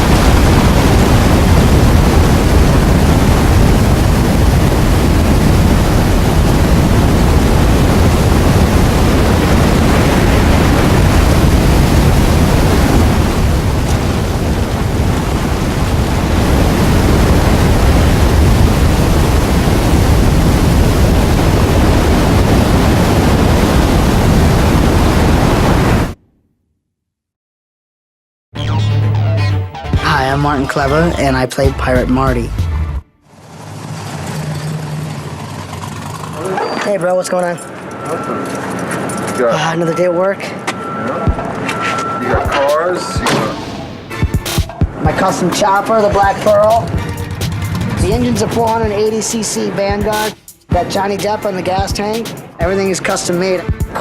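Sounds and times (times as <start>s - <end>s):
loud steady rushing noise: 0.0s - 26.2s, 30.0s - 36.4s, 37.2s - 54.0s.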